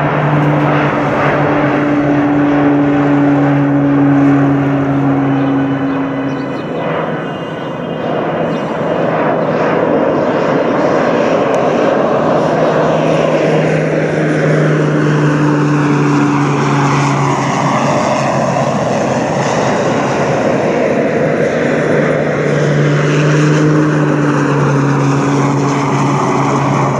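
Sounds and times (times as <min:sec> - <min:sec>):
turboprop plane flying past: 0:00.0 - 0:26.9.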